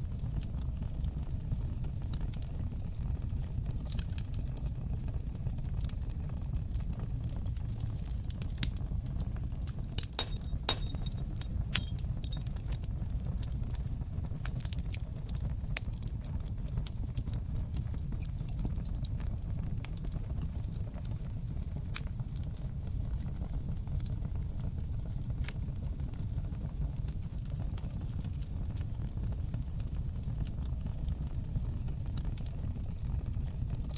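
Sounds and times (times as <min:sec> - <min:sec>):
fire popping and snapping: 0:00.0 - 0:33.9
flames rushing: 0:00.0 - 0:33.9.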